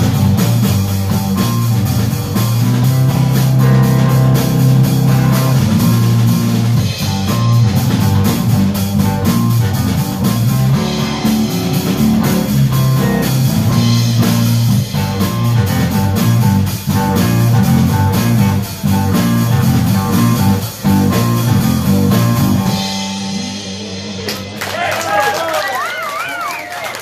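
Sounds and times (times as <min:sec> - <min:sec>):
blues-rock band playing: 0:00.0 - 0:26.2
drums keeping steady beat: 0:00.0 - 0:27.0.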